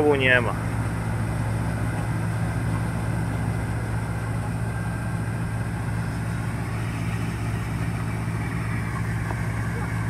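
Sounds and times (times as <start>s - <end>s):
combine harvester engine drone: 0.0s - 10.0s.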